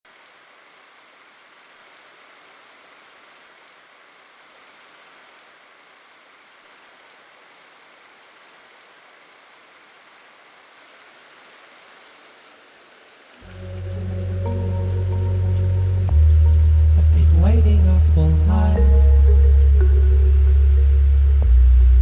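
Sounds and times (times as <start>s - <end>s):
steady rain falling: 0.1s - 22.0s.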